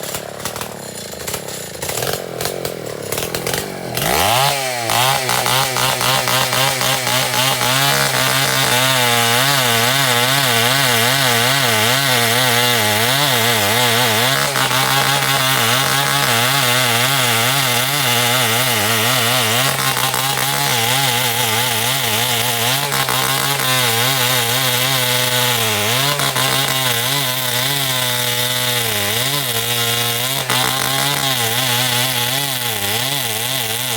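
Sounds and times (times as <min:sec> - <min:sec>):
chainsaw cutting timber: 0:00.0 - 0:33.9.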